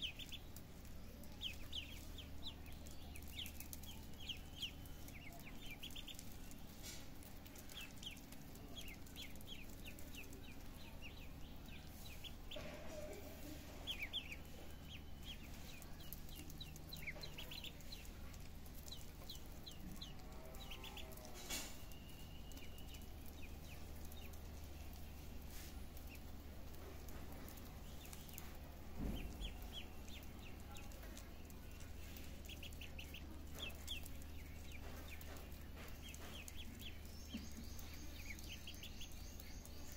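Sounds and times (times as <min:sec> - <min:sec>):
ducklings peeping: 0:00.0 - 0:39.9
steady low hum: 0:00.0 - 0:39.9.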